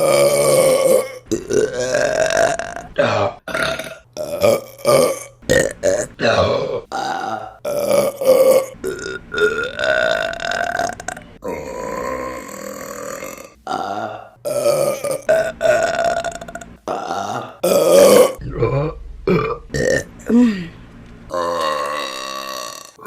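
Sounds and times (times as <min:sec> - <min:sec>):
woman burping: 0:00.0 - 0:23.0.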